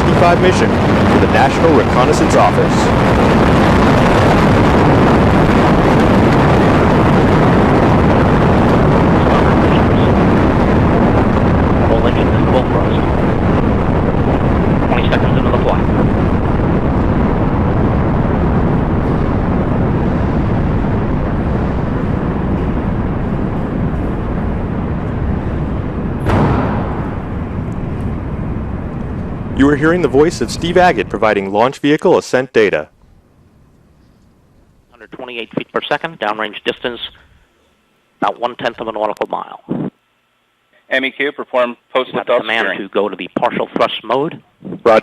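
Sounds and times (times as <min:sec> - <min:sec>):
rocket engines rumbling: 0:00.0 - 0:37.6.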